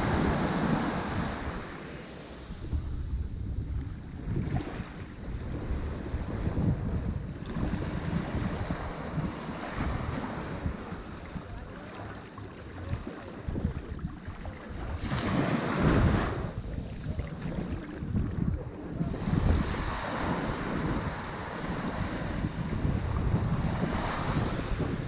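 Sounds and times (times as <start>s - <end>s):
ocean waves breaking on shore: 0.0s - 25.0s
wind rumble on microphone: 0.0s - 25.0s.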